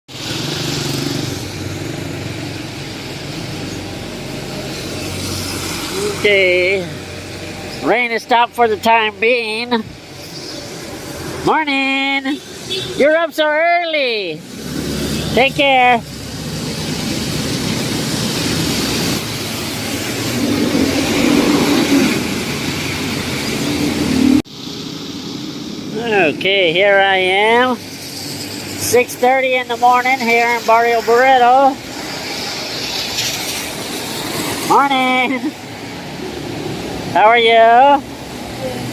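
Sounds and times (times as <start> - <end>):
passing vehicle engine hum: 0.1 - 11.5, 14.4 - 38.9
street noise: 0.1 - 38.9.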